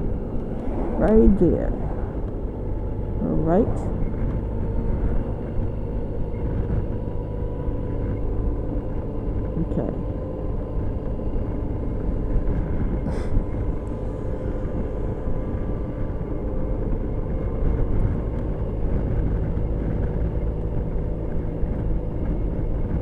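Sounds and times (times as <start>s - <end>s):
scooter engine drone: 0.0s - 23.0s
wind and road rush: 0.0s - 23.0s.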